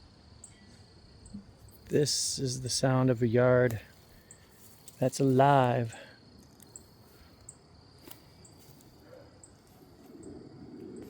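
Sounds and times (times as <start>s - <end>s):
high insect chirps: 0.0s - 11.0s
insects trilling: 0.0s - 11.0s.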